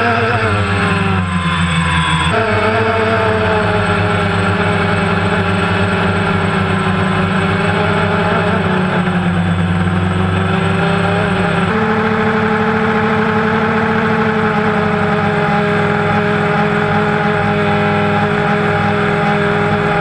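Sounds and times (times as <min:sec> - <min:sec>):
drone motors and propellers whirring: 0:00.0 - 0:20.0.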